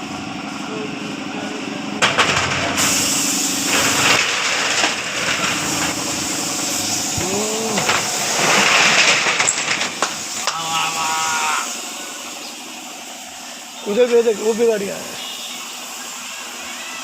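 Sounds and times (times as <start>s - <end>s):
steady hiss: 2.7s - 17.0s.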